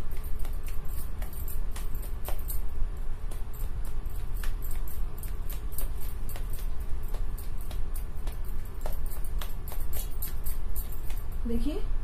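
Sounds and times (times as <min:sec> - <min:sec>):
hands patting dough: 0:00.0 - 0:11.4
bangles clicking: 0:00.0 - 0:11.5.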